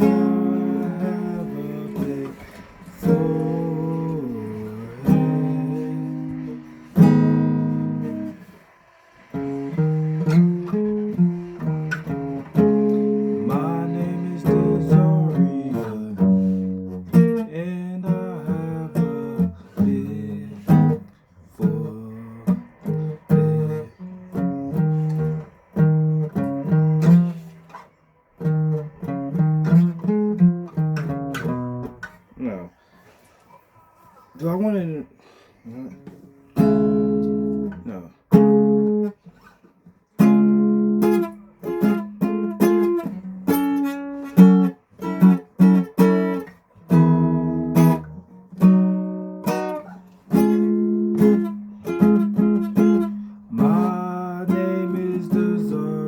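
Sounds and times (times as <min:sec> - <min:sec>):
acoustic guitar strumming chords: 0:00.0 - 0:33.2, 0:34.4 - 0:56.0.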